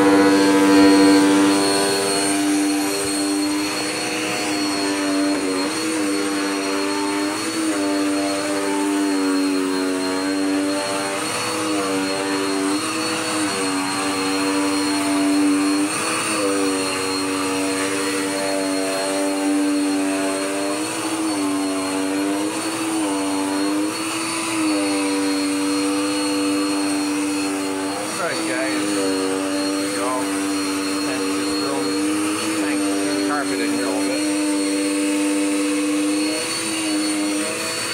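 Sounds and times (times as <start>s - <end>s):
vacuum cleaner motor whine: 0.0s - 37.9s.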